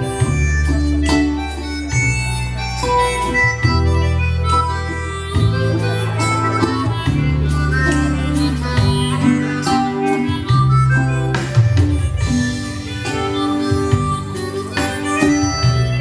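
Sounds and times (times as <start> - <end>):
electronic keyboard bass and chords: 0.0 - 16.0
harmonica melody: 0.0 - 16.0.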